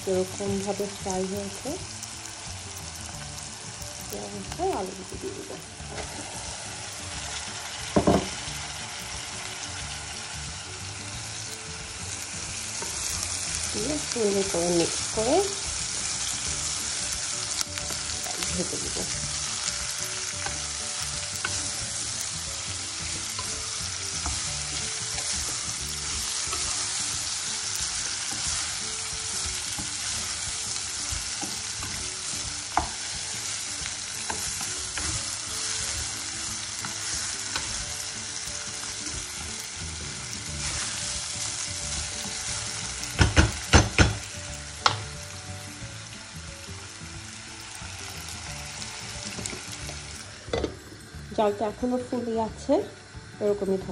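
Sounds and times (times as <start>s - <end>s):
vegetables sizzling in hot oil: 0.0s - 53.9s.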